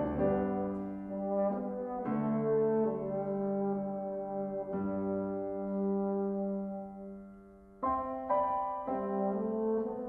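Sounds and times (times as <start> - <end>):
french horn melody: 0.0 - 10.0
grand piano accompaniment: 0.0 - 10.0.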